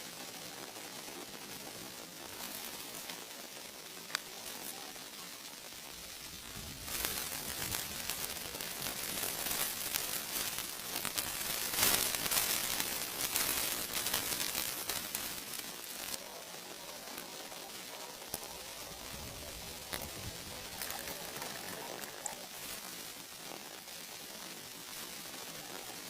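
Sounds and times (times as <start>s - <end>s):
food sizzling in a hot pan: 0.0s - 26.0s.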